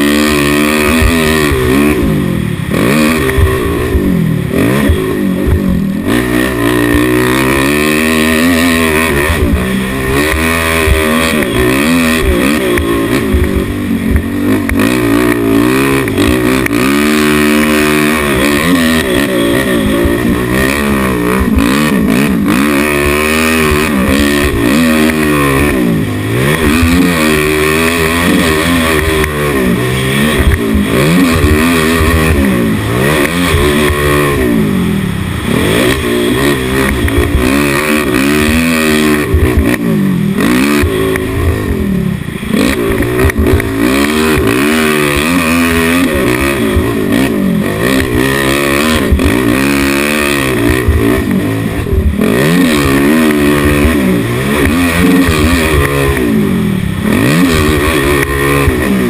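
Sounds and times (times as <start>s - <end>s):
race engine revving: 0.0s - 59.0s.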